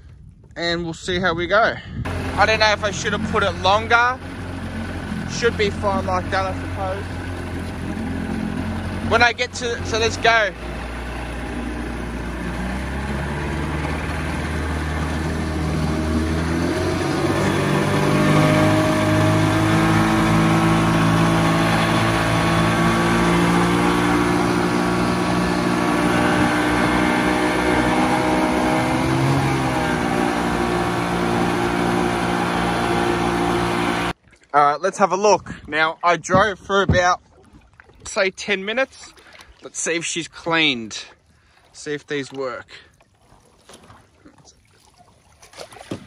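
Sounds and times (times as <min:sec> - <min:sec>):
outboard motor running: 0:02.0 - 0:34.7, 0:35.3 - 0:46.0.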